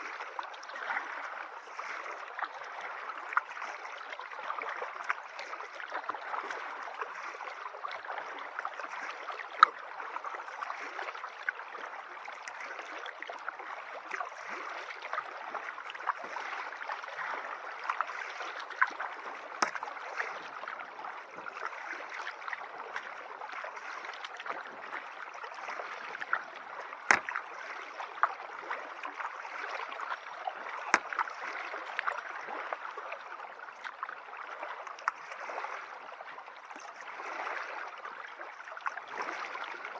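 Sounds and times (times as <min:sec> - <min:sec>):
water gurgling against hull: 0:00.0 - 0:39.9.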